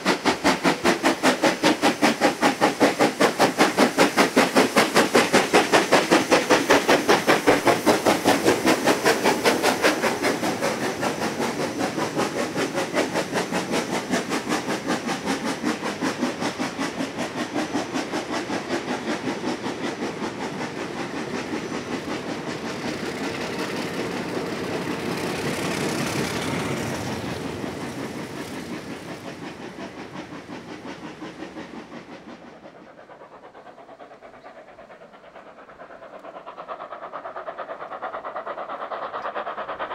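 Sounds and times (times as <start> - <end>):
steam locomotive chuffing: 0.0 - 39.9
train carriages rolling past: 0.0 - 39.9.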